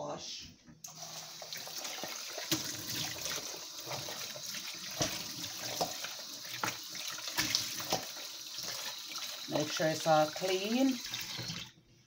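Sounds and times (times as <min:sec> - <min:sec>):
tap water splashing: 0:00.8 - 0:11.7.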